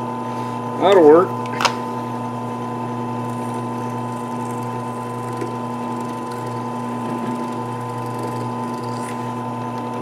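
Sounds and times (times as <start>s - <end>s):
electric motor humming: 1.8s - 10.0s.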